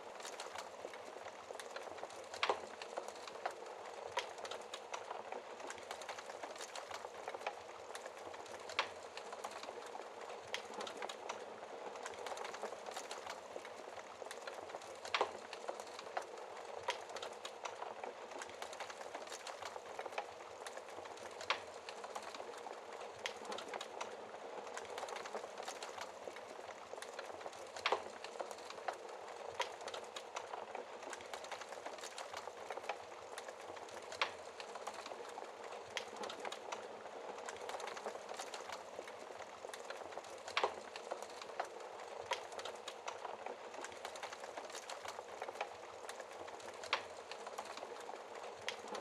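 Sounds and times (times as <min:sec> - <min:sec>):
fire hissing and crackling: 0:00.0 - 0:49.0
burning wood popping: 0:00.2 - 0:49.0.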